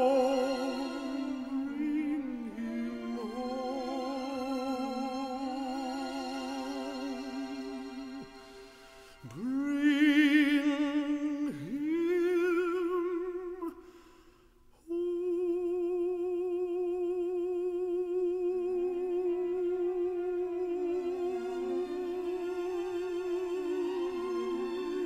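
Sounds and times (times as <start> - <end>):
man singing with vibrato: 0.0 - 14.0, 14.7 - 25.0.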